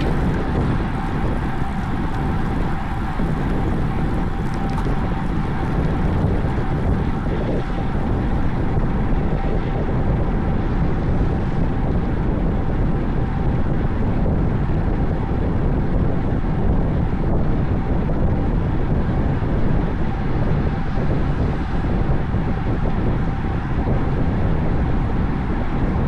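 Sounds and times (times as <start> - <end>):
faint steady hum: 0.0 - 26.0
wind rushing over microphone: 0.0 - 26.0.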